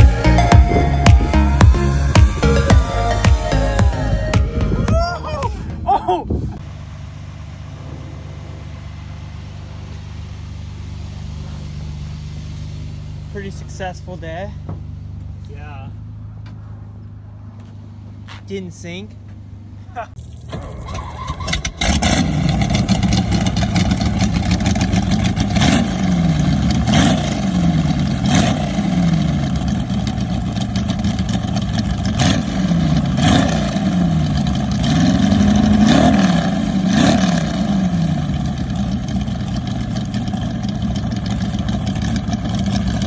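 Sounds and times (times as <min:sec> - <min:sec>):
boat engine revving and idling: 0:00.0 - 0:18.3, 0:18.9 - 0:43.0.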